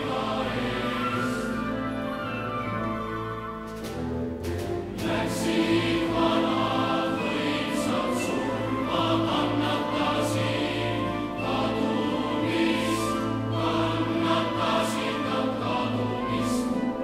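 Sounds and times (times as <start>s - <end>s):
choir singing slow chords: 0.0s - 2.1s, 5.0s - 17.0s.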